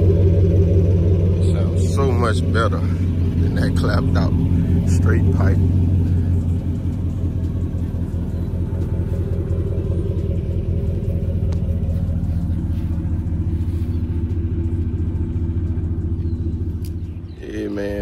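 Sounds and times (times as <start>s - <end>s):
engine idling exhaust rumble: 0.0s - 18.0s.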